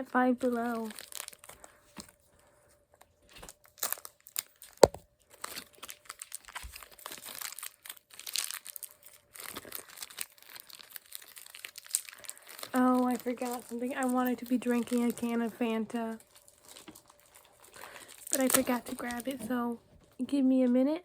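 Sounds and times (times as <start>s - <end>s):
packaging crinkling and tearing: 0.3s - 2.2s, 3.1s - 19.7s.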